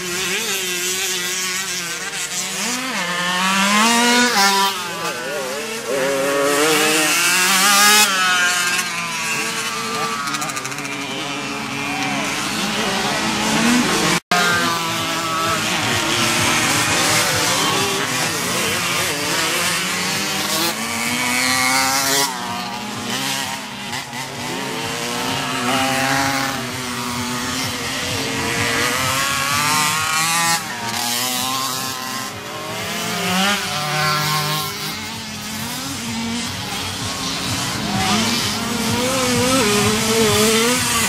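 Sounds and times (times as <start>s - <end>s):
motocross bikes revving: 0.0s - 41.0s.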